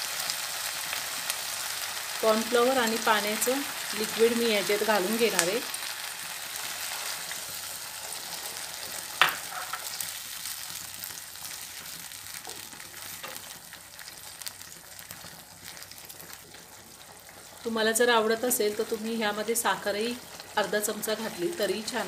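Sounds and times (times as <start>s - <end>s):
vegetables sizzling in a wok: 0.0s - 22.0s.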